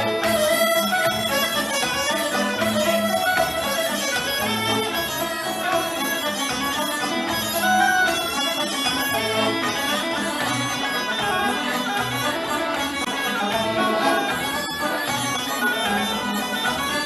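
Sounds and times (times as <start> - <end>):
bagpipe folk tune: 0.0 - 17.0.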